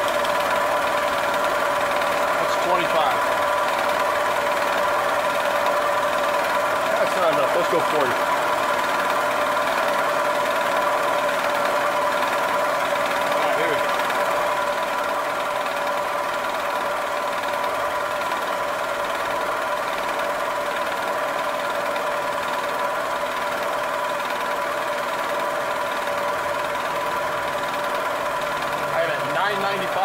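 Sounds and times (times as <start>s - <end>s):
milling machine spindle whine: 0.0s - 30.0s.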